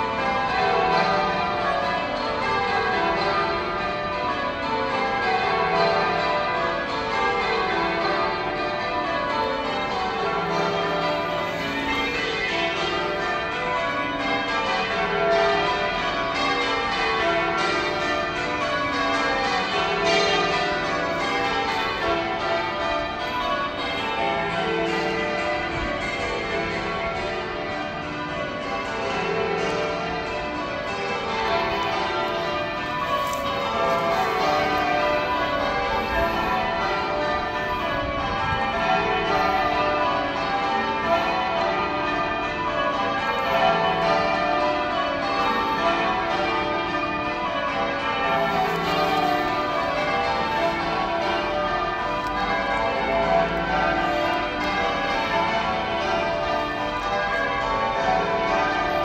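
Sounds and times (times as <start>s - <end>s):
church bells change ringing: 0.0s - 59.0s.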